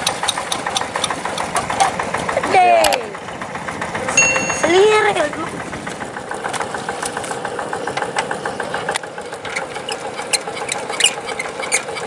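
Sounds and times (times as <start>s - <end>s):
diesel engine idling: 0.0s - 11.6s.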